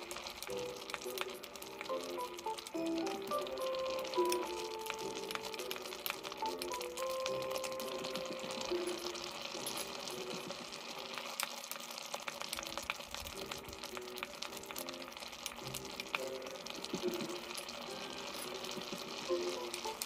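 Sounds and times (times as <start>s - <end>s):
porridge bubbling in a pot: 0.0s - 20.0s
soft background music: 0.0s - 20.0s.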